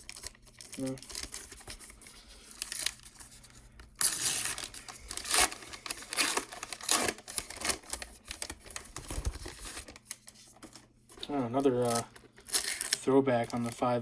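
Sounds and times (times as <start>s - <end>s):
wrapper tearing and crinkling: 0.0s - 1.8s, 2.5s - 3.4s, 4.0s - 14.0s.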